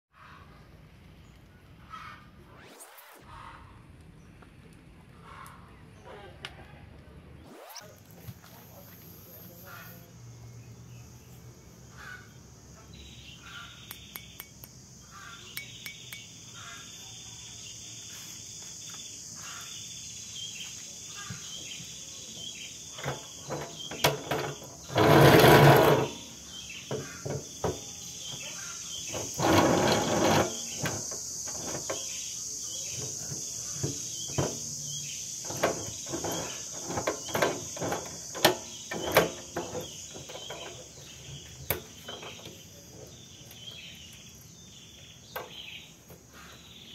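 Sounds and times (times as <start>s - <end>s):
high insect drone: 7.4s - 46.9s.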